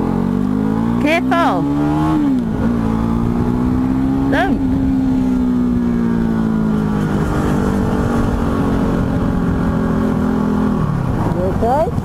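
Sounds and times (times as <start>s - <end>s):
motorcycle engine cruising: 0.0s - 12.0s
wind noise rumble: 1.6s - 12.0s.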